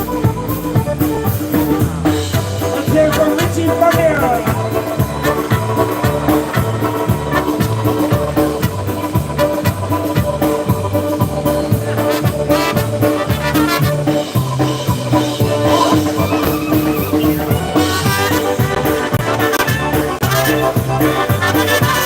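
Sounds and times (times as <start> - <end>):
polka band playing: 0.0 - 22.0.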